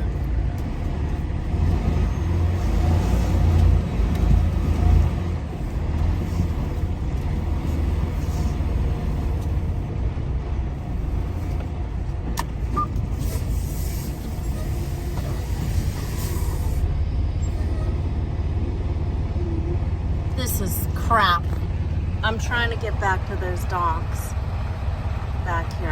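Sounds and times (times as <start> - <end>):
diesel truck engine rumbling: 0.0 - 25.9.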